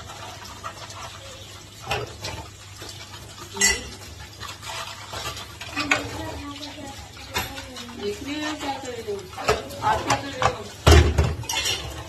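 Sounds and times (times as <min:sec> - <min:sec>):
dishes clinking in a sink: 0:00.0 - 0:12.0.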